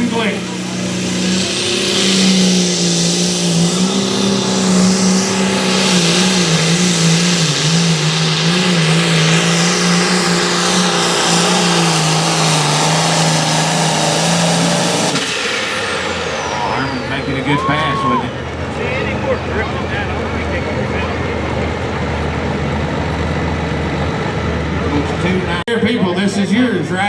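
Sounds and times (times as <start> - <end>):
tractor engine high-revving: 0.0 - 25.7.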